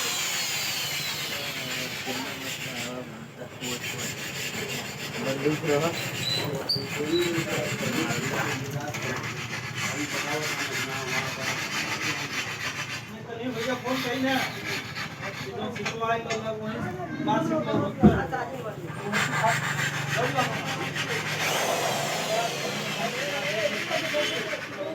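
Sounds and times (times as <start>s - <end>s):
tool scraping metal: 0.0s - 16.5s, 18.6s - 24.9s.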